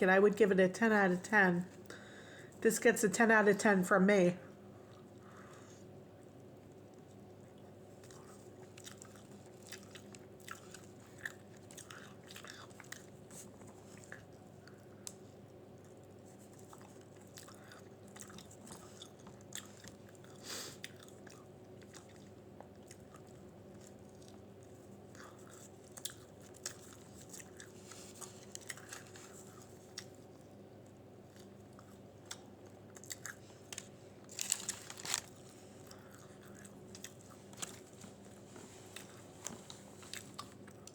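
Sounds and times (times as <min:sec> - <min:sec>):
wet chewing: 0:06.2 - 0:40.9.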